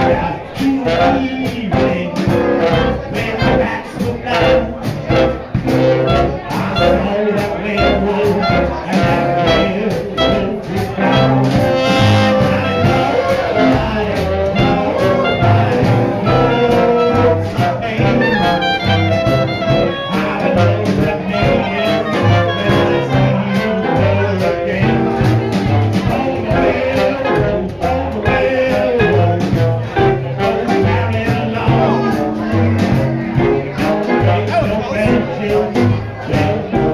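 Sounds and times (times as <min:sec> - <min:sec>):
bass and drums beat: 0:00.0 - 0:36.9
swing jazz band playing: 0:00.0 - 0:36.9.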